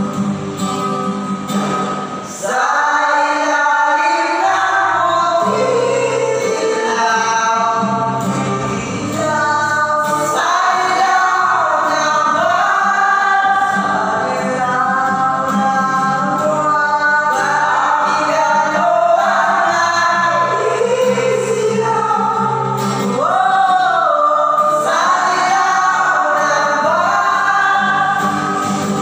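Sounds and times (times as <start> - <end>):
acoustic guitar: 0.0 - 29.0
men singing together: 2.3 - 29.0.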